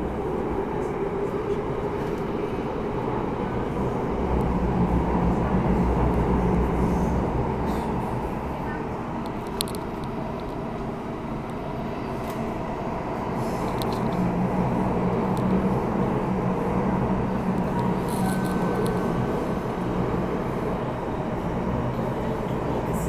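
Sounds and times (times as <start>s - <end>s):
metro train rumbling in tunnel: 0.0s - 23.0s.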